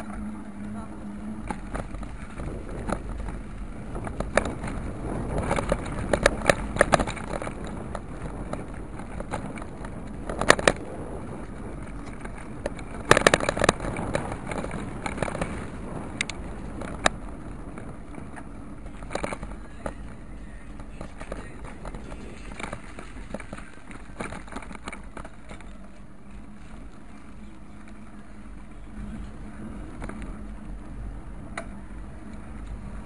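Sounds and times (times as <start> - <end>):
wind and road noise rumble: 0.0 - 33.0.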